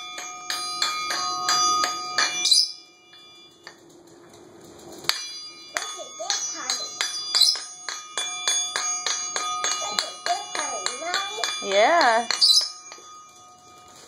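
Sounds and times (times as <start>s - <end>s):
triangle struck with stick: 0.0s - 3.8s, 5.1s - 14.0s.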